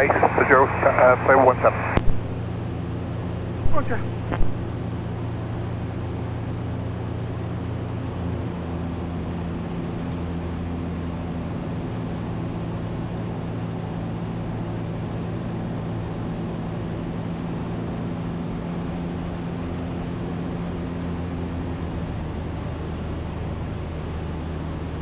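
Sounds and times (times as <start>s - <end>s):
light aircraft engine droning: 0.0s - 25.0s.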